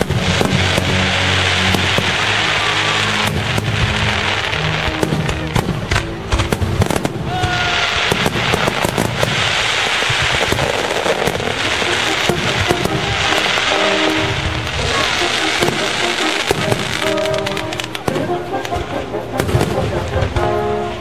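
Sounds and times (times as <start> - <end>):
firework whistling: 0.0 - 20.6
fireworks banging and crackling: 0.0 - 21.0.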